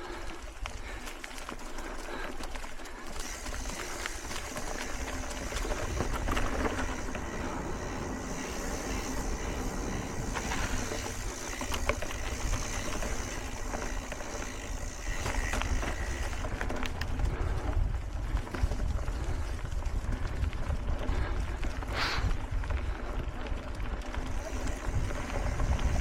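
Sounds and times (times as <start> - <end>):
bike clicks and rattles: 0.0 - 26.0
wind rumbling on microphone: 3.2 - 26.0.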